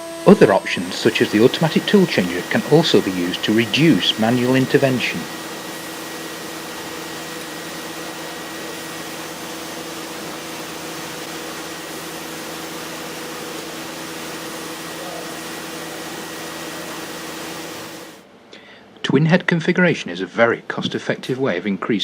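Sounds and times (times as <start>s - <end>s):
cnc router whirring: 0.0s - 18.2s
faint high whine: 0.0s - 18.2s.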